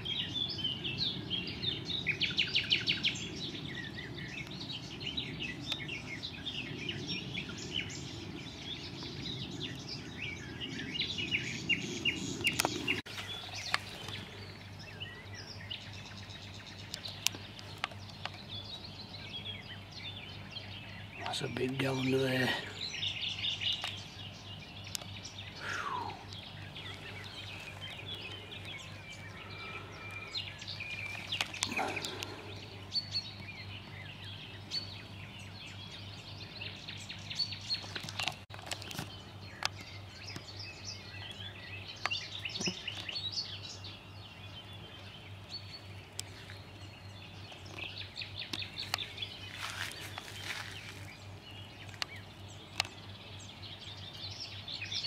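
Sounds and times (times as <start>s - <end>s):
small birds chirping and trilling: 0.0s - 55.0s.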